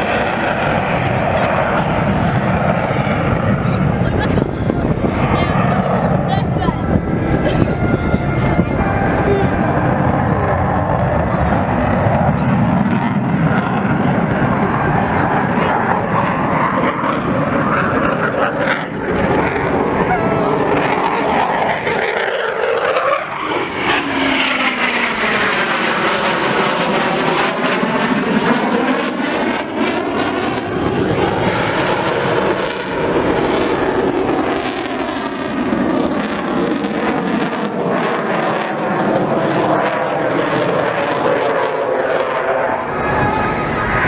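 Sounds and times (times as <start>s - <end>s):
jet engines roaring: 0.0s - 44.0s.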